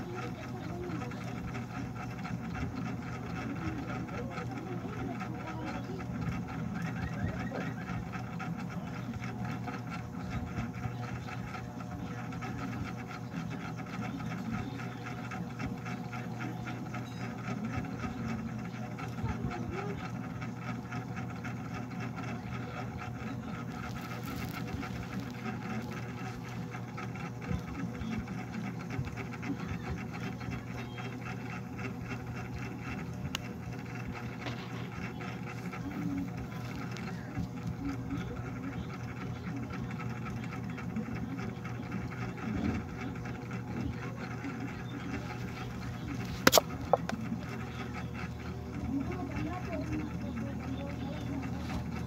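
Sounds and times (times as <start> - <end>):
small motor humming with rattle: 0.0 - 52.0.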